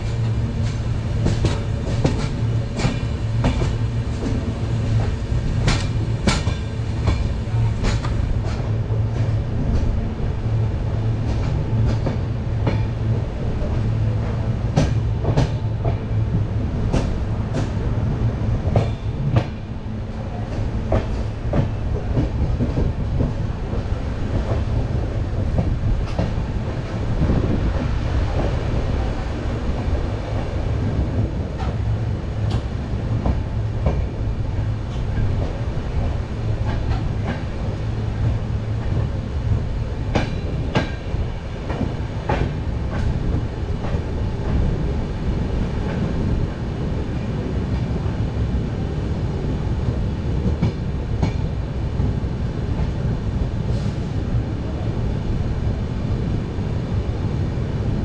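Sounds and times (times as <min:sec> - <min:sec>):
low rumble of train coaches: 0:00.0 - 0:58.0.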